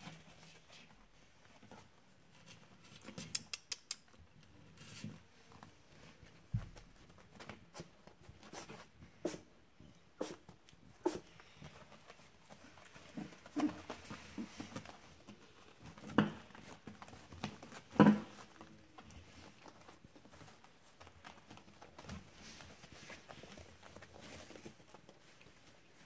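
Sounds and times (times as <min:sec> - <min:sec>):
puppy paws pattering on floor: 0:00.0 - 0:26.0.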